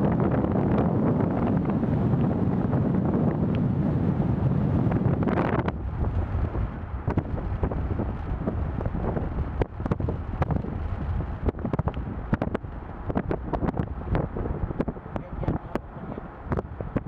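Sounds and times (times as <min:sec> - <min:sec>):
low road rumble: 0:00.0 - 0:17.0
sharp crackles and pops: 0:00.0 - 0:17.0
wind buffeting microphone: 0:00.0 - 0:17.0.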